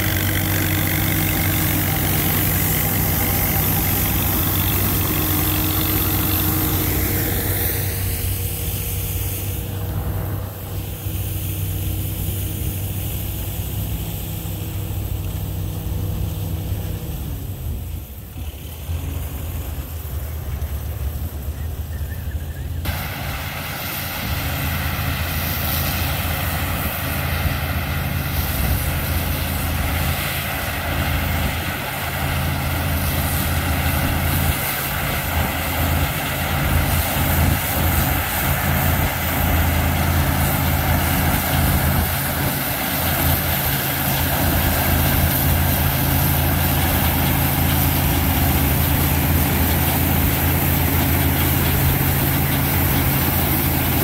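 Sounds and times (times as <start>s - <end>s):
combine threshing machinery: 0.0s - 54.0s
tractor engine running: 0.0s - 54.0s.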